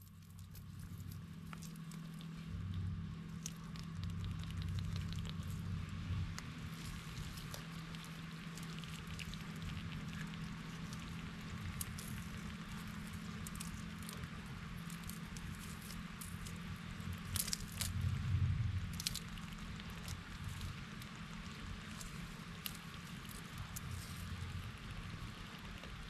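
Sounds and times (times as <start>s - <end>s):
rain pattering on vegetation: 0.0s - 26.0s.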